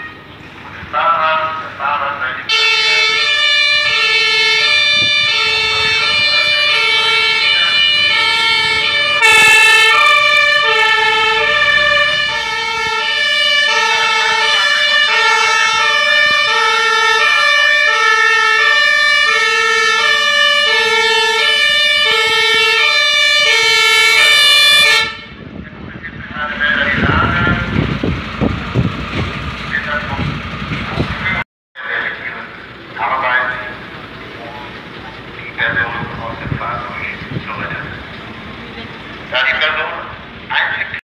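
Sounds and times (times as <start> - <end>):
two-tone fire engine sirens: 0.0 - 41.0.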